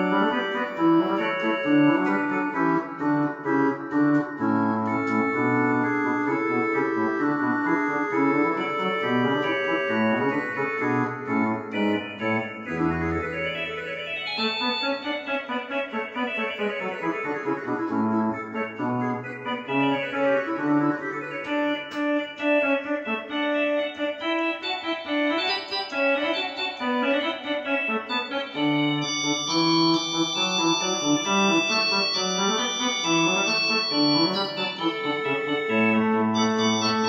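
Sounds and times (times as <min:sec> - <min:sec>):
organ music: 0:00.0 - 0:37.0.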